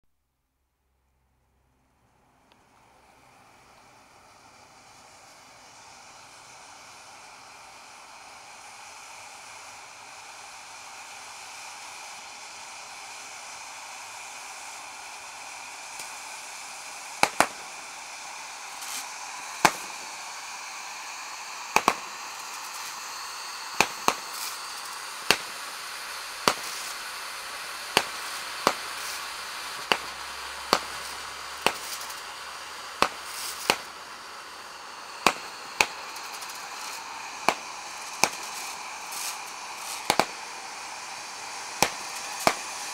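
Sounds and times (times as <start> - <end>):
firework fountains hissing: 1.5 - 42.9
fireworks banging: 2.2 - 42.9.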